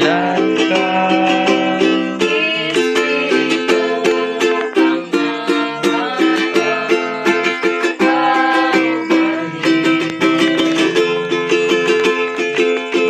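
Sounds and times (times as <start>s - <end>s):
plucked string instrumental music: 0.0s - 13.0s.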